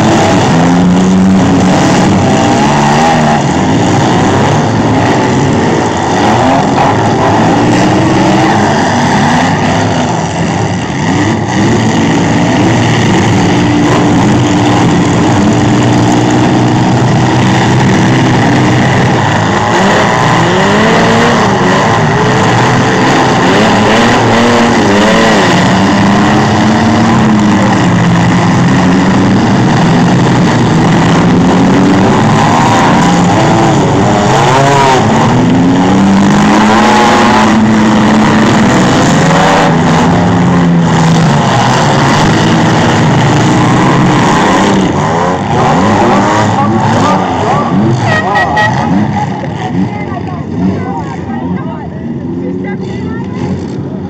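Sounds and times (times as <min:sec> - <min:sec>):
engines revving: 0:00.0 - 0:54.0.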